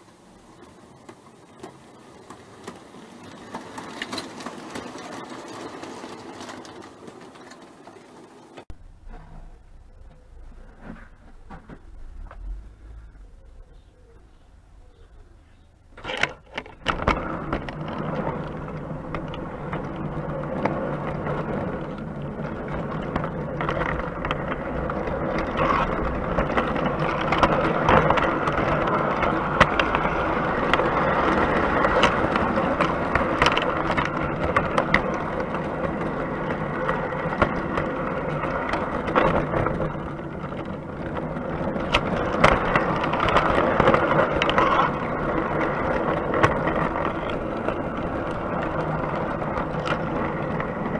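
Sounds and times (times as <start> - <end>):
model train wheels rattling on rails: 0.0 - 8.7, 16.0 - 50.9.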